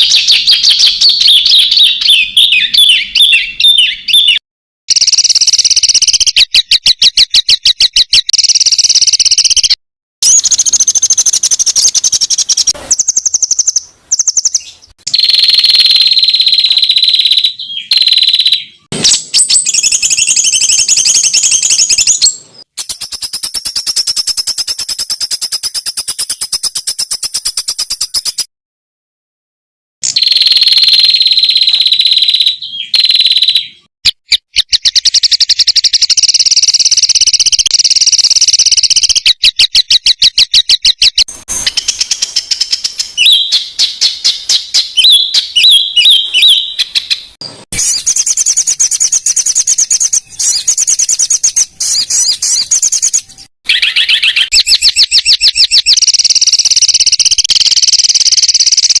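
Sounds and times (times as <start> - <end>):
songbird trilling: 0.0 - 28.4, 30.0 - 59.0.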